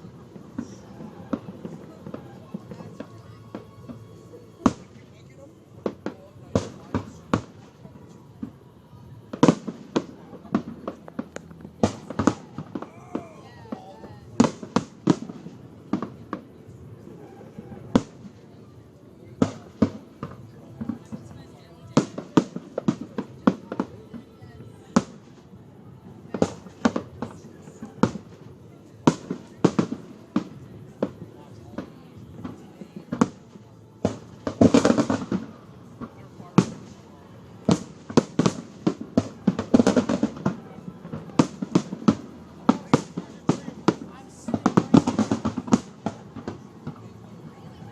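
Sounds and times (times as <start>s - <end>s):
fireworks bangs with echo: 0.0s - 47.9s.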